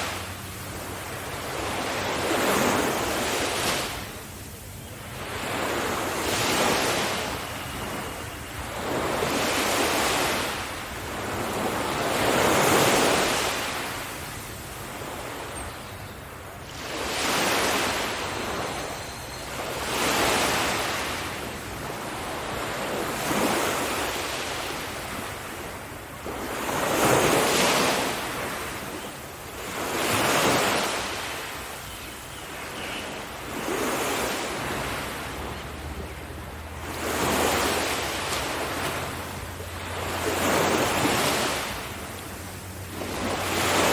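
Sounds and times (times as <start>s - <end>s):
ocean waves breaking: 0.0s - 43.9s.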